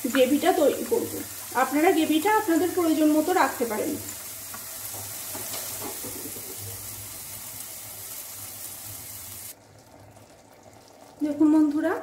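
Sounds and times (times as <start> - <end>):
gravy sizzling: 0.0 - 12.0.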